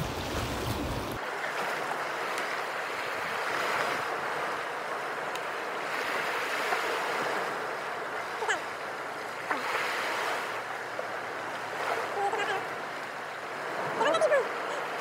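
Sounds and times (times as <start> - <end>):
sea waves on rocky shore: 0.0 - 15.0.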